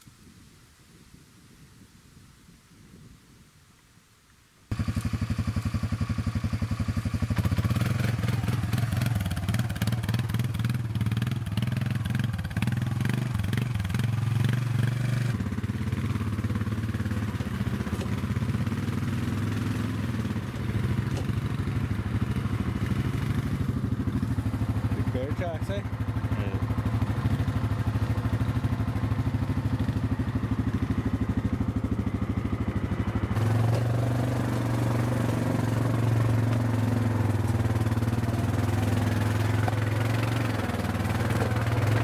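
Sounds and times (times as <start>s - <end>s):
quad bike engine running: 4.7s - 42.0s.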